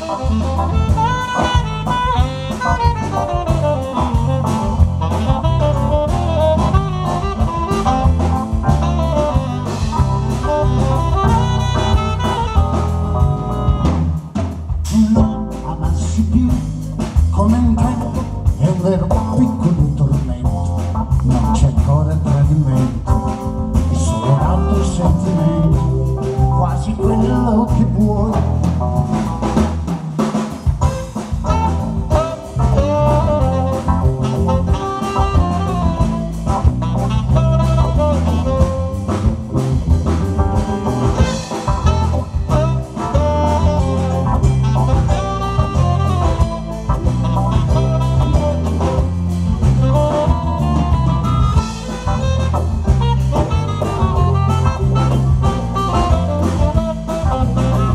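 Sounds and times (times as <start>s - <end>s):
live band playing: 0.0s - 57.9s
saxophone: 0.0s - 57.9s.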